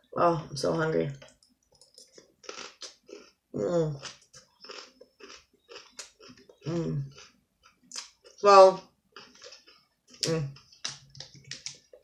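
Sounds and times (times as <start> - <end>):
chewing salad greens: 1.8 - 12.0.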